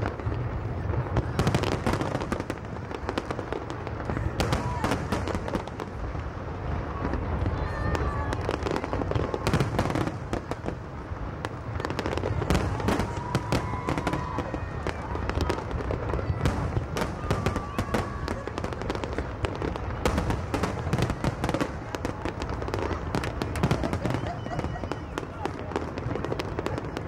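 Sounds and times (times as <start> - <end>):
fireworks booming and crackling: 0.0 - 27.0.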